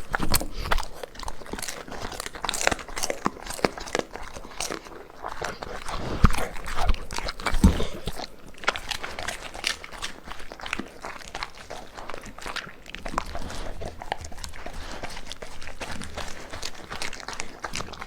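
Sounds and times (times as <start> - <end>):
dog chewing food: 0.0 - 18.0.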